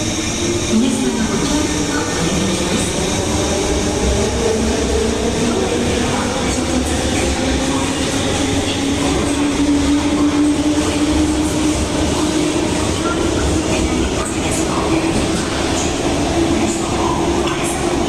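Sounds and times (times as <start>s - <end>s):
rumble of running train: 0.0s - 18.0s.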